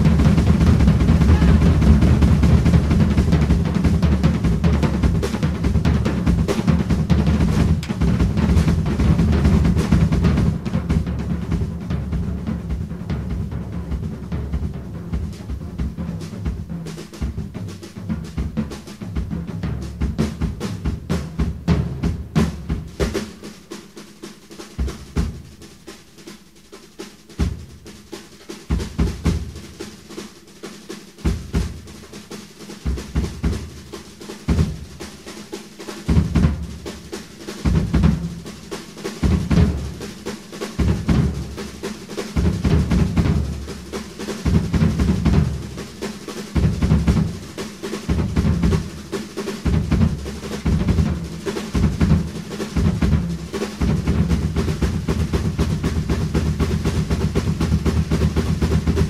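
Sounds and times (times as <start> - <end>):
bass drum: 0.0 - 23.4, 28.7 - 30.0, 31.3 - 32.2, 32.8 - 35.3, 36.0 - 59.0
snare drum rolls and hits: 0.0 - 59.0.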